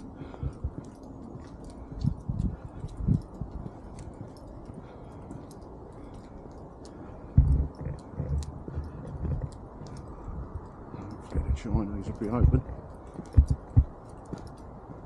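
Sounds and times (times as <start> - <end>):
footsteps on paved path: 0.0 - 15.0.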